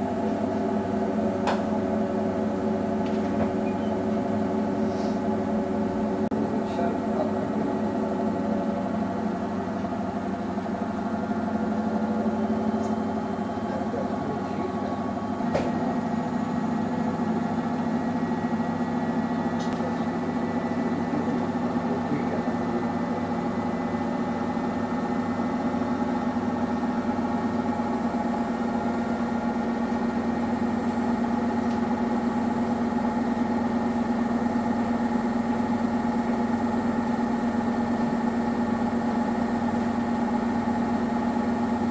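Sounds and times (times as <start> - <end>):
washing machine motor hum: 0.0 - 41.9.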